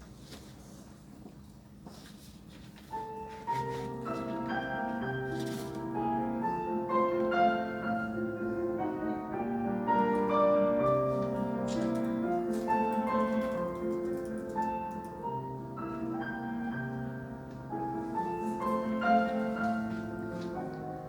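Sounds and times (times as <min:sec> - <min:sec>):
classical piano music: 0:02.8 - 0:21.0.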